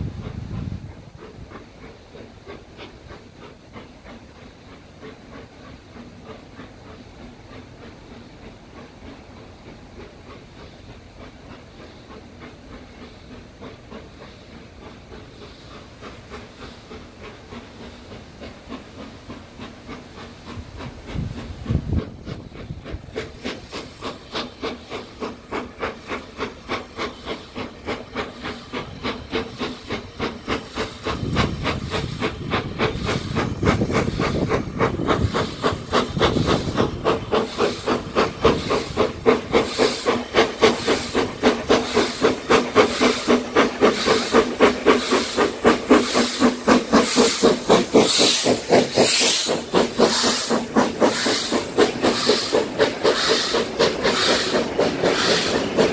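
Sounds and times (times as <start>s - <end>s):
steam locomotive exhaust beats: 0.0s - 55.9s.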